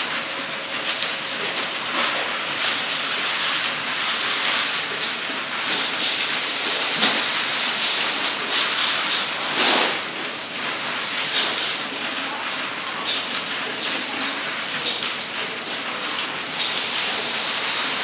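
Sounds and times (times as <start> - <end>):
machine hiss and clatter: 0.0 - 18.0.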